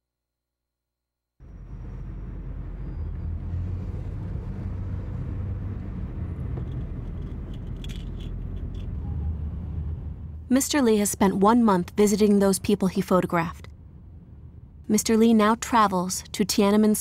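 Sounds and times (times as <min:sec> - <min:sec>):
low rumble of vehicle noise: 0:01.4 - 0:17.0.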